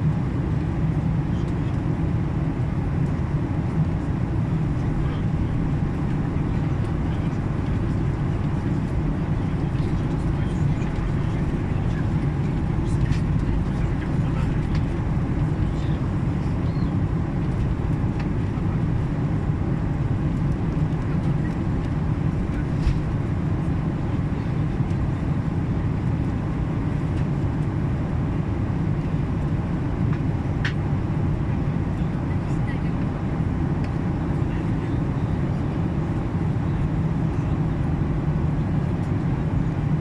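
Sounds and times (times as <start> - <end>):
airliner cabin rumble: 0.0 - 40.0.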